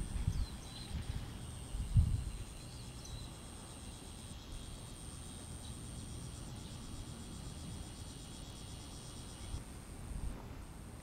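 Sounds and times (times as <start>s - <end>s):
insect fast pulsing trill: 0.0s - 9.6s
insects high-pitched buzz: 0.0s - 10.1s.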